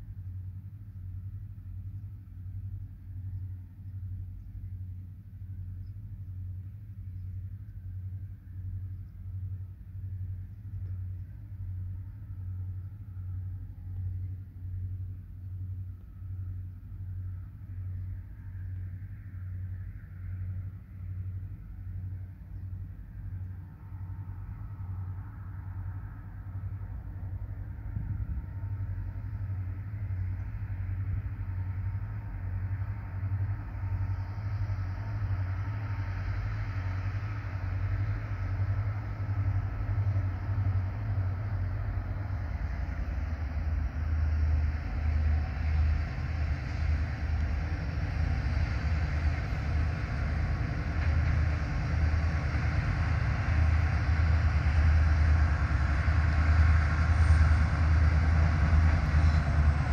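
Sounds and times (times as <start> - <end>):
locomotive engine drone: 0.0 - 59.9
train running noise: 0.0 - 59.9.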